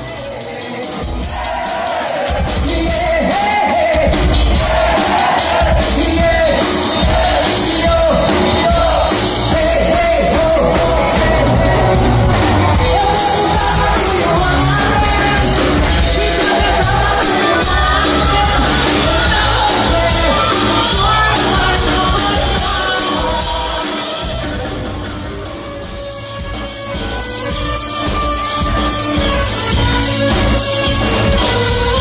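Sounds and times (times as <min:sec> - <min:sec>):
rock band with singer: 0:00.0 - 0:32.0.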